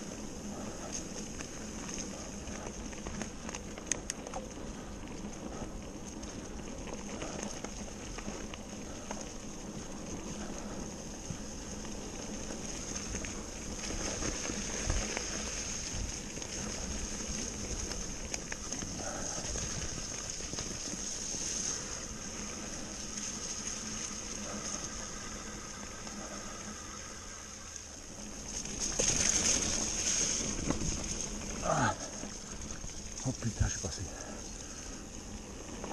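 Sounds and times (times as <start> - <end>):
bike tyres rolling on leaves: 0.0 - 35.9.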